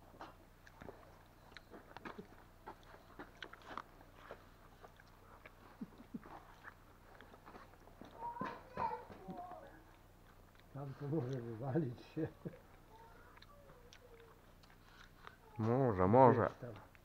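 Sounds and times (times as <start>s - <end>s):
person chewing grapes: 0.1s - 16.0s, 16.8s - 17.0s.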